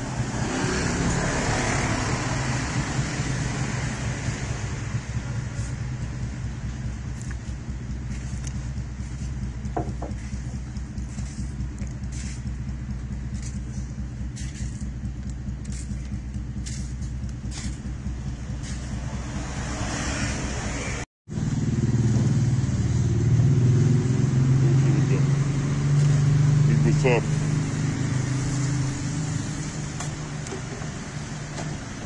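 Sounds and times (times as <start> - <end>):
traffic engine hum: 0.0 - 32.0.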